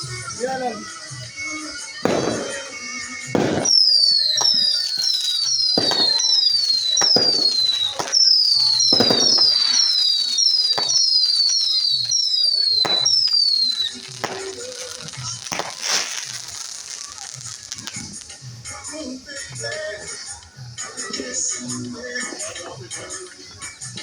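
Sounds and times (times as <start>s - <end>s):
fireworks bangs: 0.0s - 24.0s
fireworks whistling falling in pitch: 0.0s - 24.0s.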